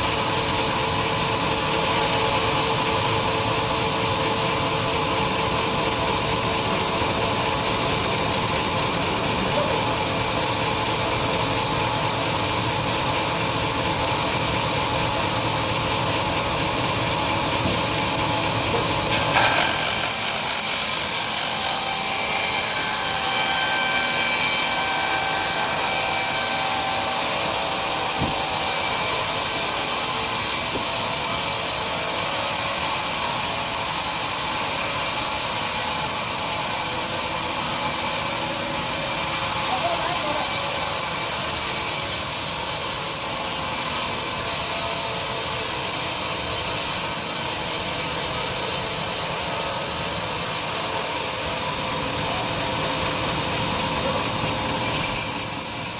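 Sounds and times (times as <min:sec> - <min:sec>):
band sawmill cutting log: 0:00.0 - 0:55.9.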